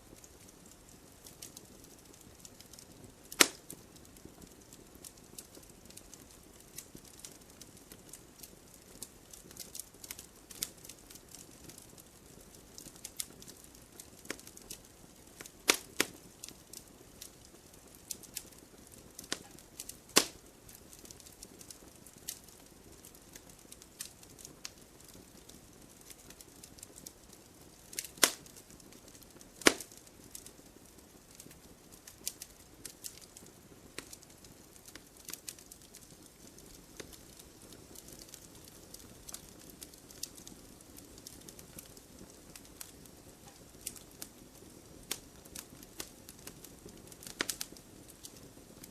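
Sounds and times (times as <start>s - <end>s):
burning logs popping: 0.0s - 48.9s
wood fire crackling in fireplace: 0.0s - 48.9s.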